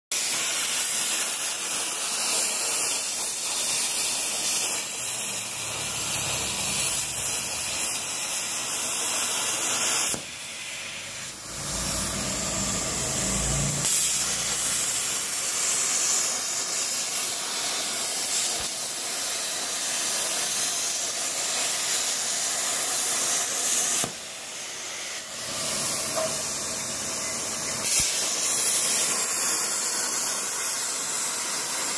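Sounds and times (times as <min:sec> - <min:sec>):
plasma cutter hissing: 0:00.1 - 0:31.9.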